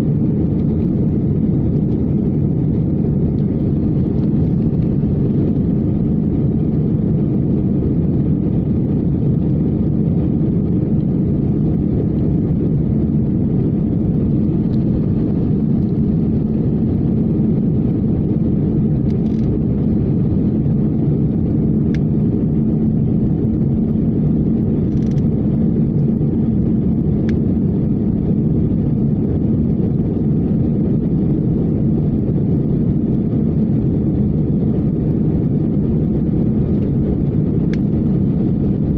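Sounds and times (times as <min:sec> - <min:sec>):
jet engines roaring in cabin: 0:00.0 - 0:38.9
low steady hum: 0:00.0 - 0:38.9.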